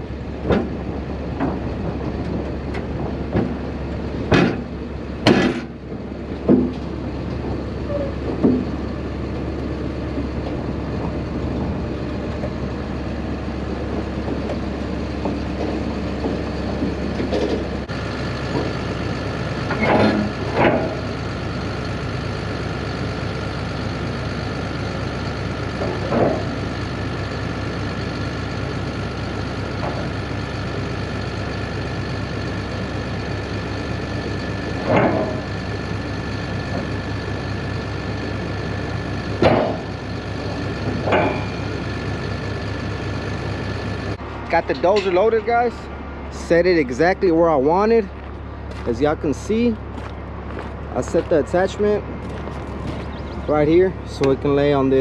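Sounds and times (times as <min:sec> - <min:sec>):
bulldozer diesel engine running: 0:00.0 - 0:55.0
metallic clanks of steel tracks: 0:00.0 - 0:55.0.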